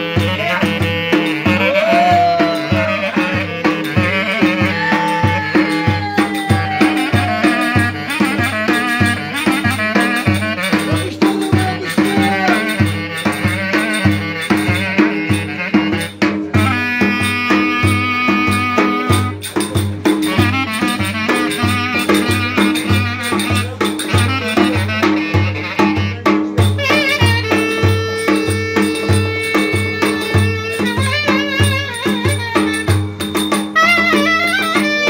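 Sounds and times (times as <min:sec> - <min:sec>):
steady drum beat: 0:00.0 - 0:35.0
wind instrument sliding melody: 0:00.0 - 0:35.0.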